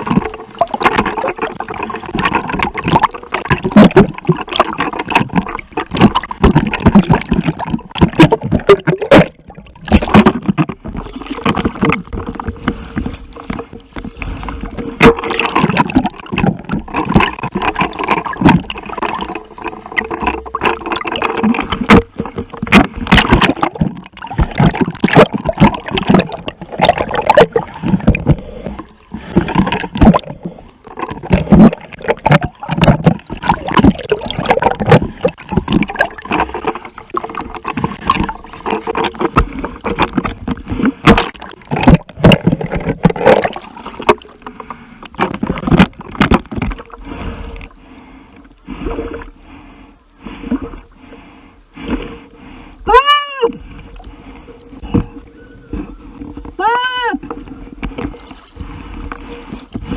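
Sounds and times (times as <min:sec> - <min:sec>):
seawater splashing and sloshing: 0:00.0 - 0:59.9.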